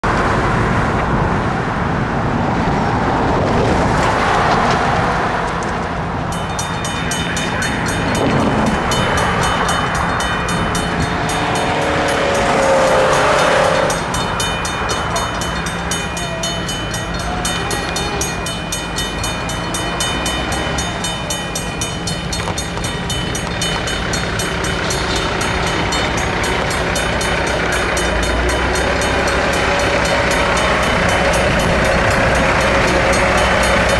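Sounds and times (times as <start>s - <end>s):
passing road traffic: 0.0s - 33.9s
railroad crossing bells clanging: 3.9s - 33.9s.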